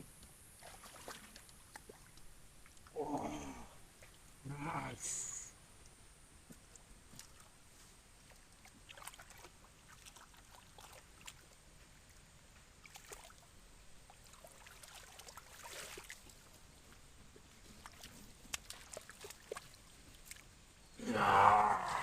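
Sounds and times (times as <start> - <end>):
water splashing and sloshing: 0.5 - 4.4, 6.4 - 20.8.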